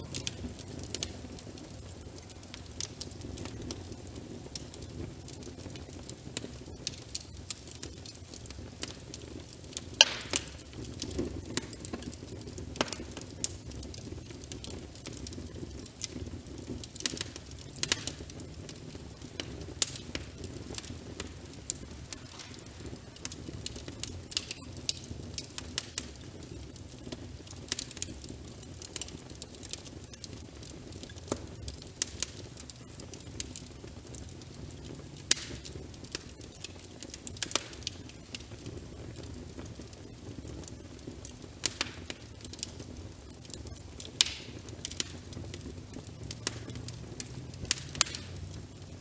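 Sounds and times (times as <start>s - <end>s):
fire rumbling: 0.0s - 49.0s
rain patter: 0.0s - 49.0s
wood fire crackling and popping: 0.0s - 49.0s.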